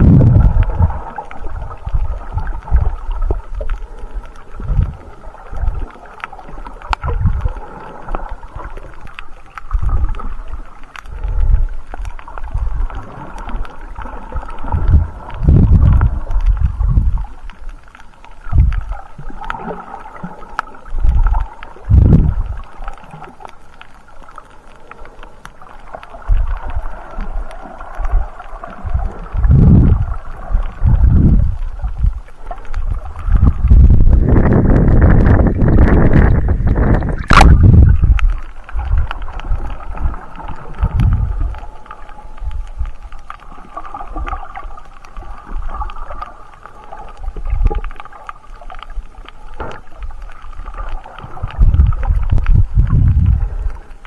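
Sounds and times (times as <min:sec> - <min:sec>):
underwater water surges: 0:00.0 - 0:54.0
faint clicks: 0:00.4 - 0:54.0.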